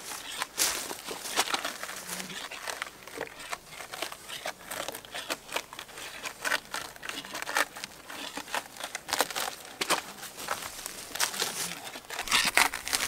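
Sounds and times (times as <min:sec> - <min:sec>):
bark tearing from log: 0:00.1 - 0:13.0.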